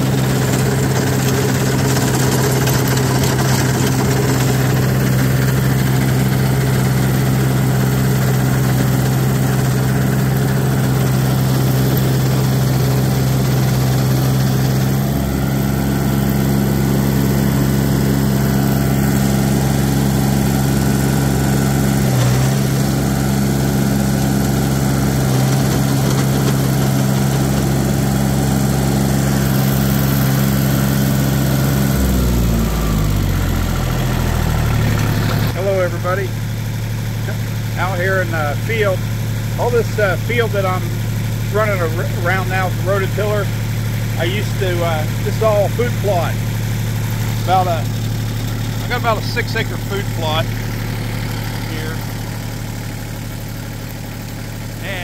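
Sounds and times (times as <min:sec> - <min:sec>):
tractor engine under load: 0:00.0 - 0:55.0.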